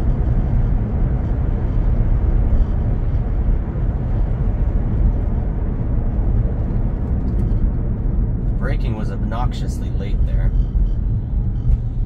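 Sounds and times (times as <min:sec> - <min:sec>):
road and tyre rumble: 0:00.0 - 0:12.0
wind noise: 0:00.0 - 0:12.0.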